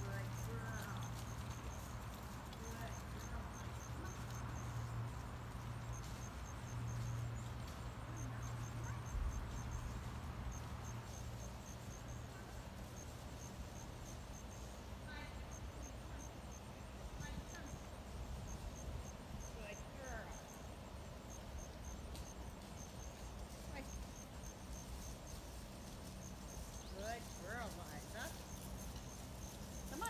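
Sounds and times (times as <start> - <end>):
insects chirping: 0.0 - 30.0.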